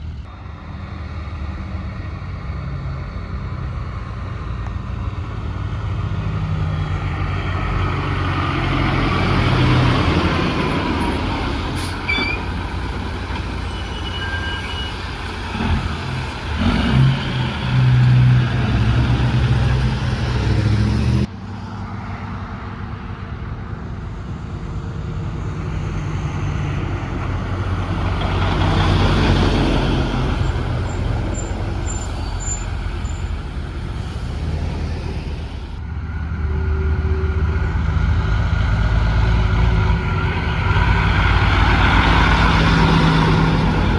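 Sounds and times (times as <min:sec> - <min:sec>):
heavy trucks driving past: 0:00.0 - 0:43.9.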